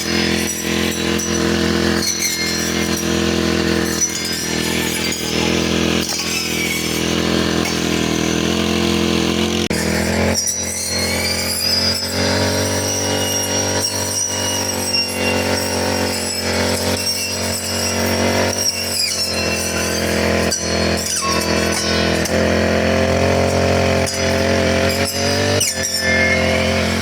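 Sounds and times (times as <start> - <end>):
brush cutter engine running: 0.0 - 27.0.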